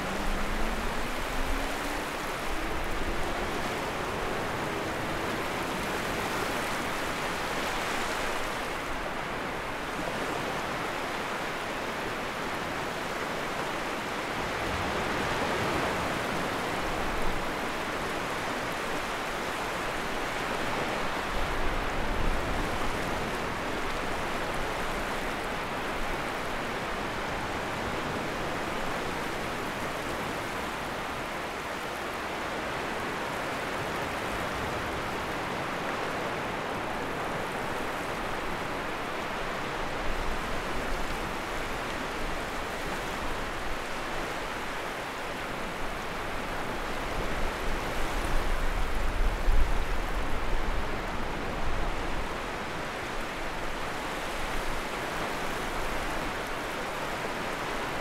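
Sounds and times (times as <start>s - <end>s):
sea waves washing on shore: 0.0s - 58.0s.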